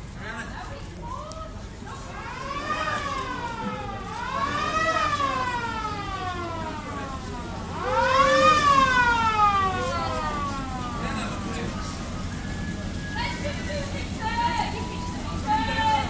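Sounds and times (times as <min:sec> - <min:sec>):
police siren wailing: 0:01.9 - 0:16.0.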